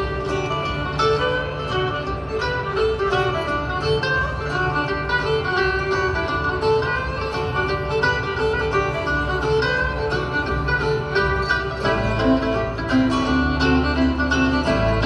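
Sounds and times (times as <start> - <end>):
bluegrass band playing: 0.0 - 15.0.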